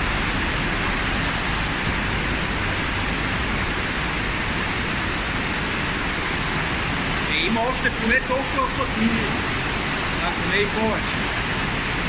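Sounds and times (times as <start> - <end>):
water rushing through tunnel: 0.0 - 12.0.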